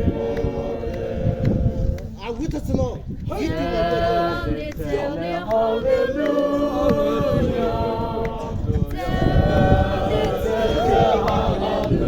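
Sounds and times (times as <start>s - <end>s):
group singing unaccompanied: 0.0s - 2.2s, 3.2s - 12.0s.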